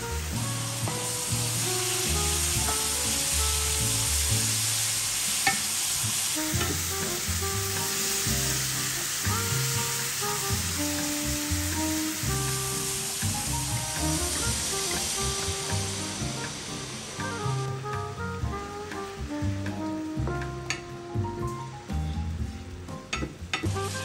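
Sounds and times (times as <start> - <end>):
food sizzling in a frying pan: 0.0 - 24.0
soft background music: 0.0 - 24.0.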